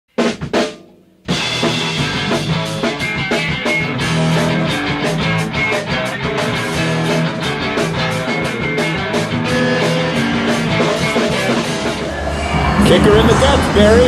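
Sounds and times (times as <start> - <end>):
rock band playing: 0.2 - 14.0.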